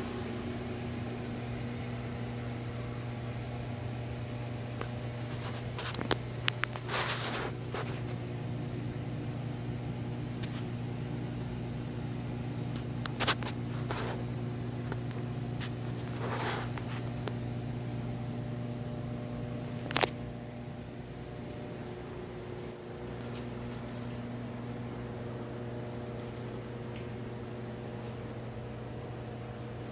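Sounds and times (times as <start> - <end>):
aquarium pumps humming: 0.0 - 29.9.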